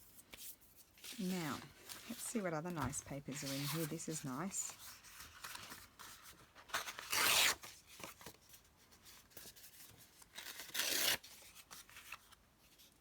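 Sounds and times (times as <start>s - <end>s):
light paper rustling: 0.0s - 10.7s.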